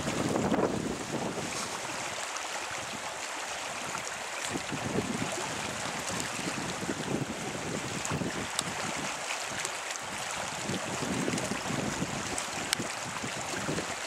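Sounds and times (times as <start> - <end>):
wind buffeting microphone: 0.0 - 2.1, 3.8 - 14.0.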